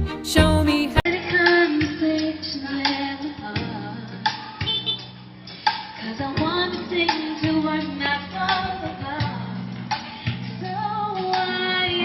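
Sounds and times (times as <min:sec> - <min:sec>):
song with female vocal: 0:00.0 - 0:04.7, 0:05.6 - 0:12.0.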